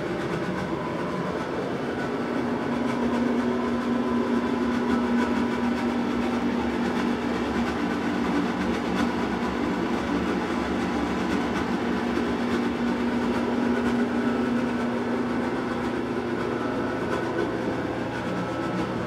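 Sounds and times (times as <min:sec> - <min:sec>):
mechanical hum and rumble: 0:00.0 - 0:19.0.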